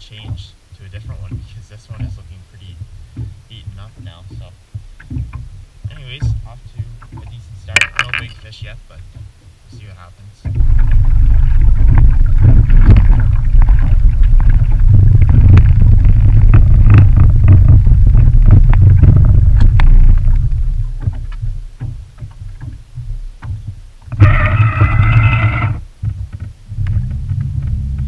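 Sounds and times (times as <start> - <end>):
motorboat engine rumble: 0.0 - 28.0
short knocks: 0.1 - 28.0.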